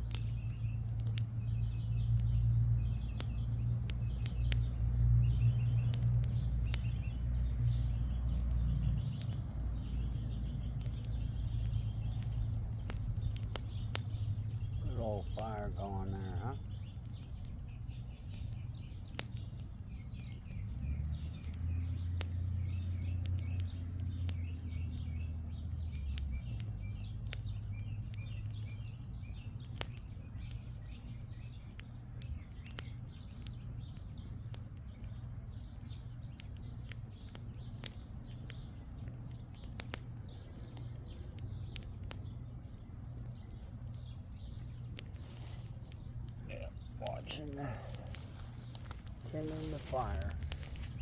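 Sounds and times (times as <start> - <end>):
campfire crackling and popping: 0.0 - 51.0
small birds chirping: 0.0 - 51.0.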